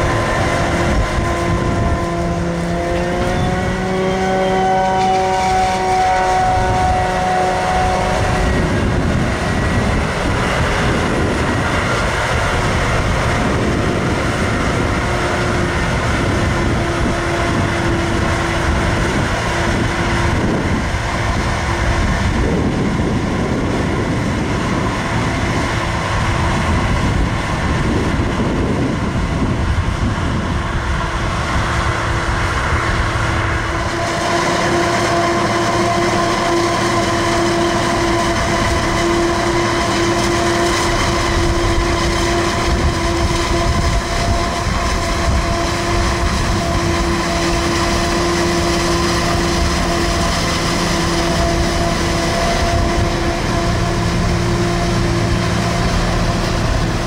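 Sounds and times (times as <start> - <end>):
heavy engine drone: 0.0 - 57.0
machine whine: 0.0 - 57.0.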